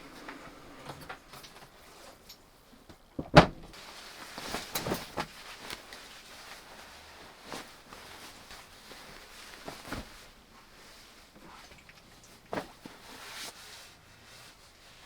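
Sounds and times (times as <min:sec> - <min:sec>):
handling clicks and rustles: 0:00.1 - 0:13.6.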